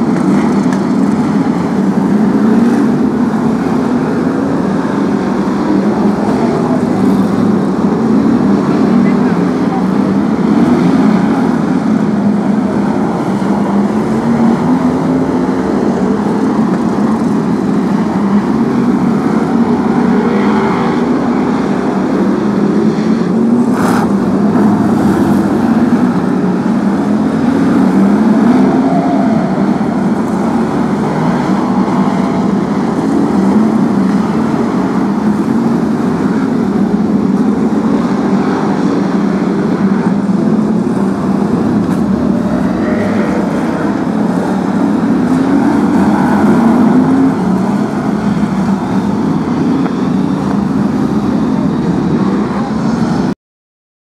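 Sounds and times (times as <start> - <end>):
race car engines: 0.0 - 53.4.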